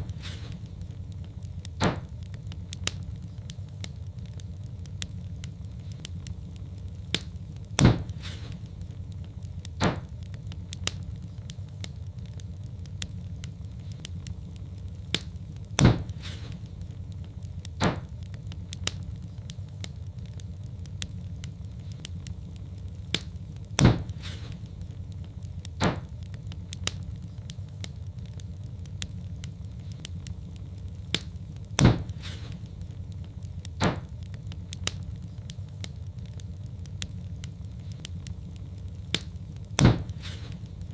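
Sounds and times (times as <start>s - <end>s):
fire popping loudly: 0.0s - 40.9s
wood fire crackling: 0.0s - 40.9s.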